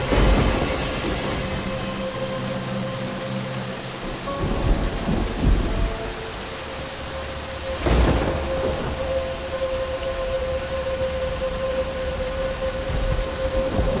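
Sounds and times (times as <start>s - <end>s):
heavy rain: 0.0s - 14.0s
thunder rumbling: 0.0s - 14.0s.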